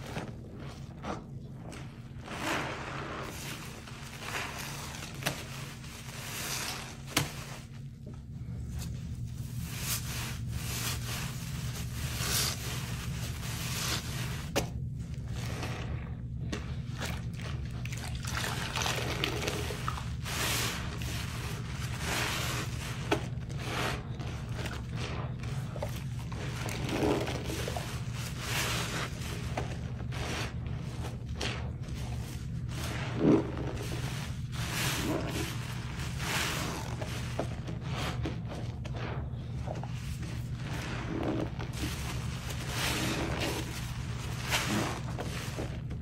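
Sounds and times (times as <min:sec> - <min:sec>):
sponge squelching: 0:00.0 - 0:46.0.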